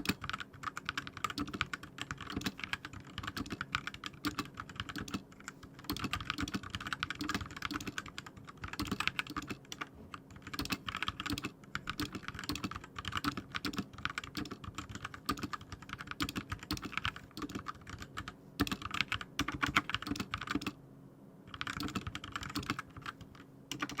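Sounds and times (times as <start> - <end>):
mechanical keyboard typing: 0.0 - 20.8, 21.5 - 24.0.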